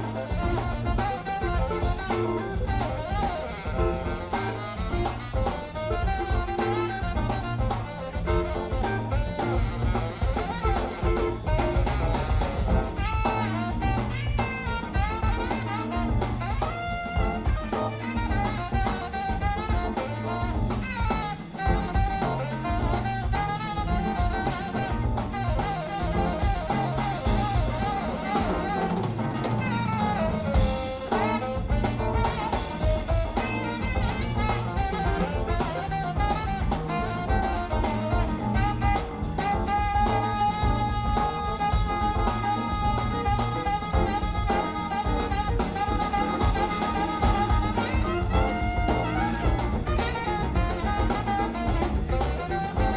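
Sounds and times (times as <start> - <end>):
jazz music with saxophone and brass: 0.0 - 52.9.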